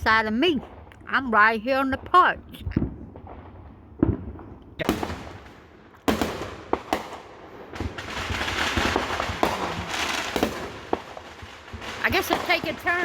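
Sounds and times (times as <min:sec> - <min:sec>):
fireworks bangs: 0:00.0 - 0:13.0
rapid crackling pops: 0:02.0 - 0:13.0.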